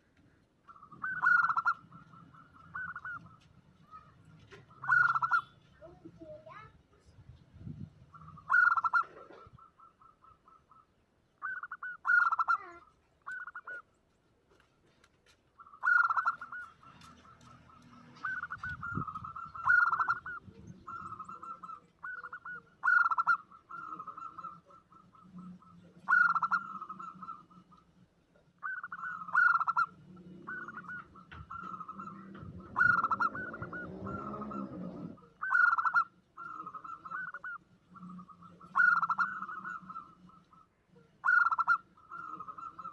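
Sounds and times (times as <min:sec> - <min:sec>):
doves cooing: 0:00.0 - 0:13.9, 0:15.6 - 0:42.9.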